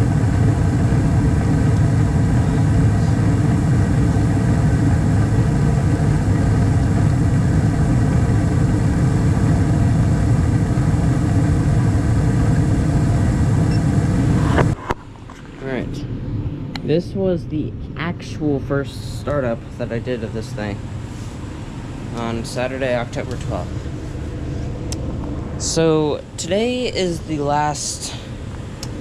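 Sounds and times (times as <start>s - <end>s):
gas furnace rumbling: 0.0s - 29.0s.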